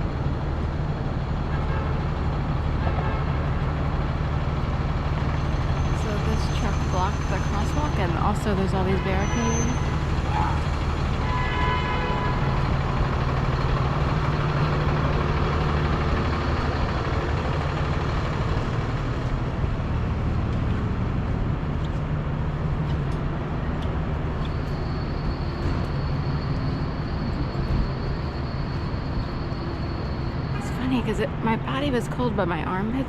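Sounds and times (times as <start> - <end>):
large vehicle engine droning: 0.0 - 33.0.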